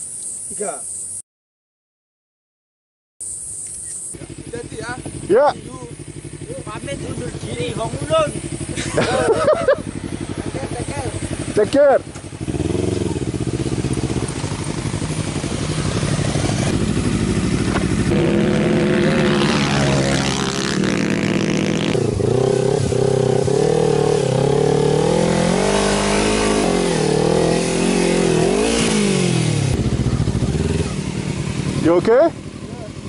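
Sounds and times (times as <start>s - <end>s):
motorcycle engine revving: 4.1s - 33.0s.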